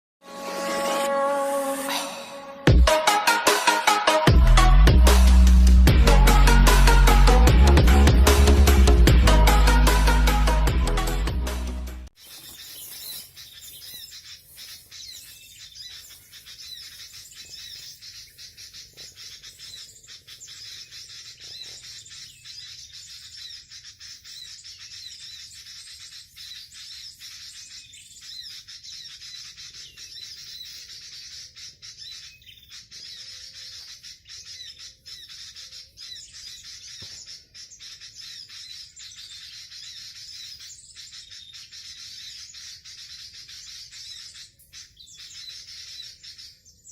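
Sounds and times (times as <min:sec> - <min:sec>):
birds chirping: 0:01.8 - 0:46.9.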